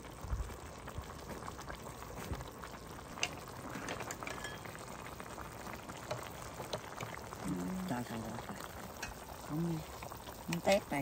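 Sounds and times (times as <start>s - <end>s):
broth simmering and bubbling: 0.0s - 11.0s.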